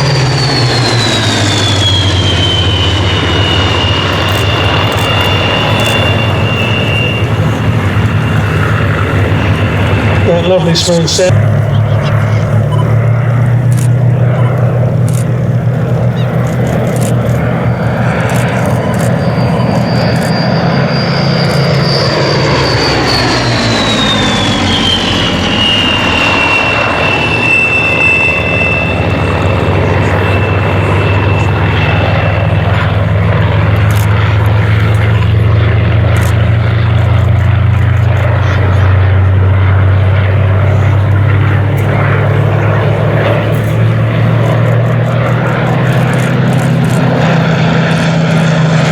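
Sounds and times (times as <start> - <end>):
propeller plane flying past: 0.0 - 48.9.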